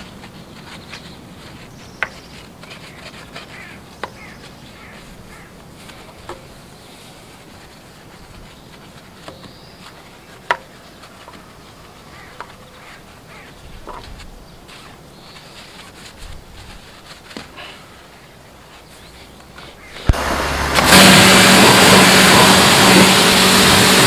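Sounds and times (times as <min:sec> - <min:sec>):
brush bristles swishing: 0:00.0 - 0:23.0.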